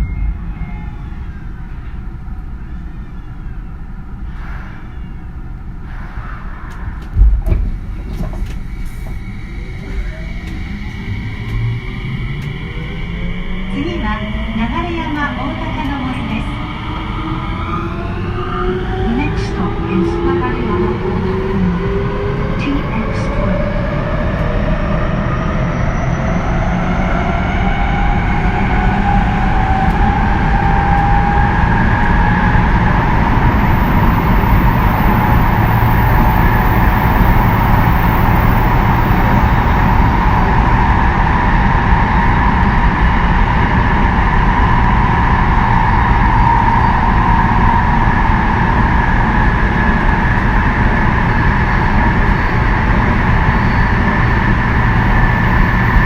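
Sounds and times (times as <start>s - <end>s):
train wheels rumbling on rails: 0.0s - 56.0s
electric train motors whining: 7.8s - 56.0s.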